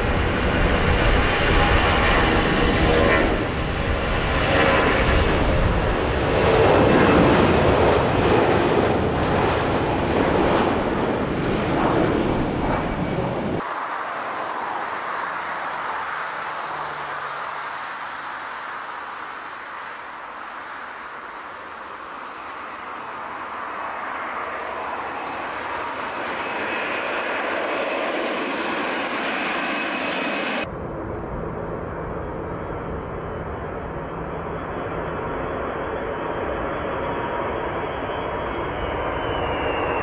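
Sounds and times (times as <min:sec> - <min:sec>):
airliner rumble on approach: 0:00.0 - 0:40.0
jet engines at takeoff: 0:00.0 - 0:40.0.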